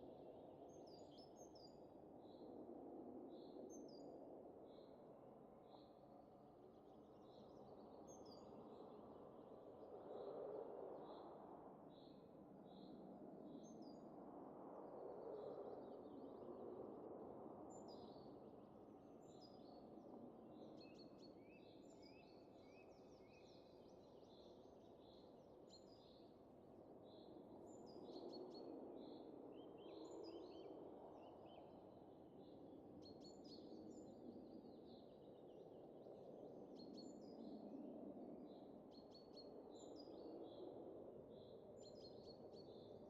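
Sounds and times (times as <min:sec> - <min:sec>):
faint soft wind: 0:00.0 - 0:43.0.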